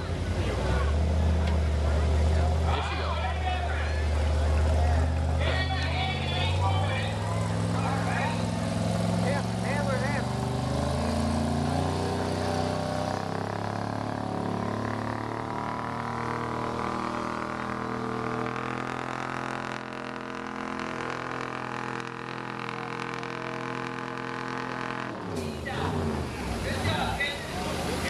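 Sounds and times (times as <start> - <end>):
truck engine under heavy load: 0.0 - 28.0.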